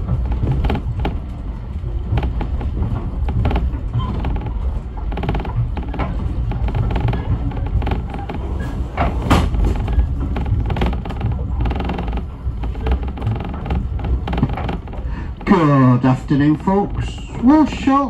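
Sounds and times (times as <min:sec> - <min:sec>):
carriage knocking and creaking: 0:00.0 - 0:01.4, 0:02.0 - 0:18.0
train wheels rumbling on track: 0:00.0 - 0:18.0.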